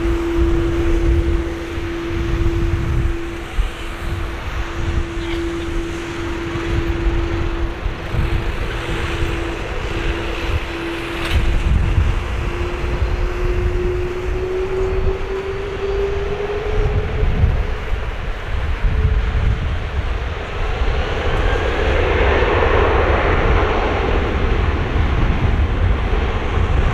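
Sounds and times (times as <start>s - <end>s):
jet engines rumbling and whining: 0.0s - 26.9s.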